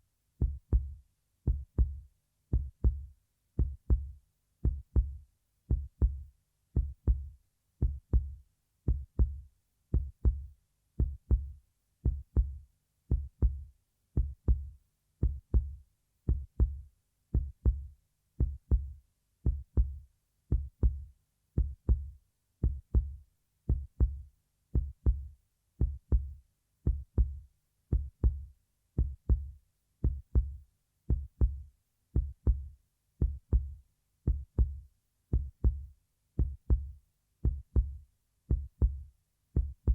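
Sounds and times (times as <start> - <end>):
heartbeat lub-dub thumps: 0.4 - 39.9.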